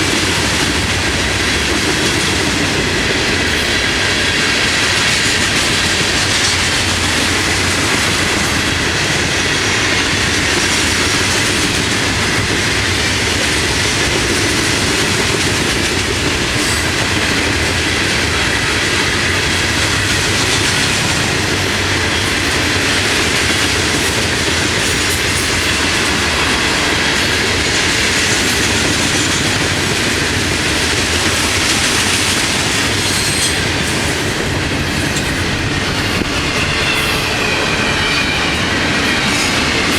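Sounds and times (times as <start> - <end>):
freight cars rumbling on rails: 0.0 - 39.9.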